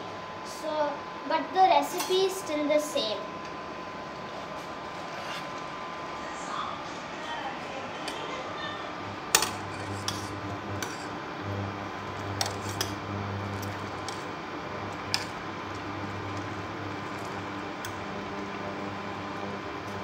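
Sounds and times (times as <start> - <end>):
cooktop hum: 0.0 - 20.0.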